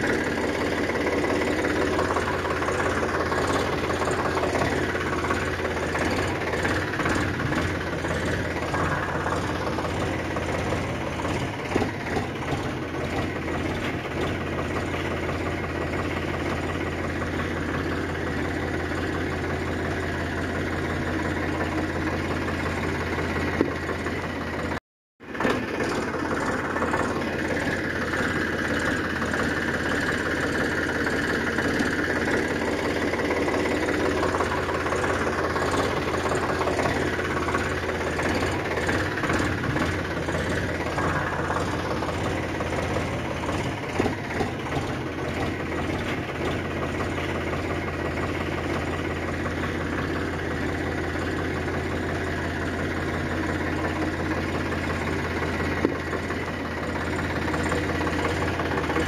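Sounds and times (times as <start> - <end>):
engine-like drone: 0.0 - 59.0.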